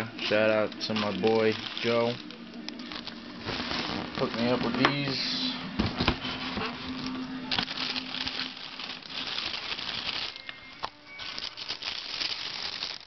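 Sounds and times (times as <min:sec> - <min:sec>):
tissue paper crinkling: 0:00.2 - 0:13.0.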